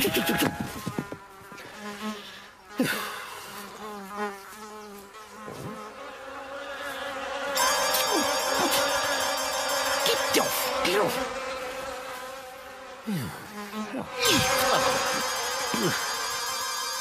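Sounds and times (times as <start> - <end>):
flies buzzing: 0.0 - 17.0.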